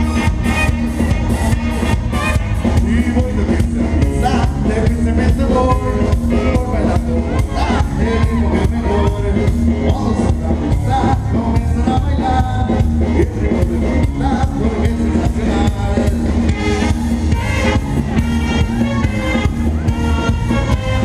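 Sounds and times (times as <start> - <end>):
live band playing dance music: 0.0 - 21.0
person singing: 0.0 - 21.0.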